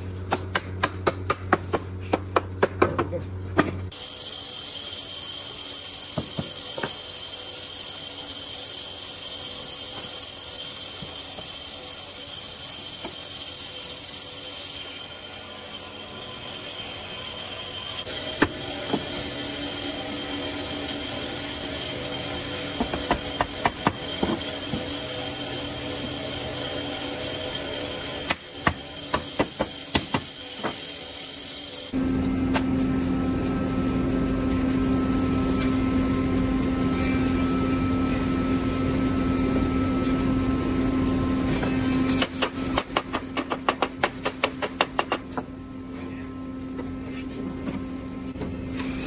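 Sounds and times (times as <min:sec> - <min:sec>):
mechanical whirring with hiss: 0:03.9 - 0:49.0.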